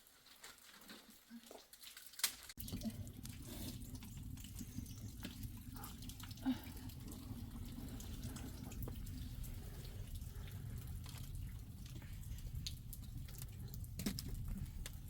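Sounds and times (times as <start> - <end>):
water drips: 0.0 - 15.0
water running: 0.2 - 15.0.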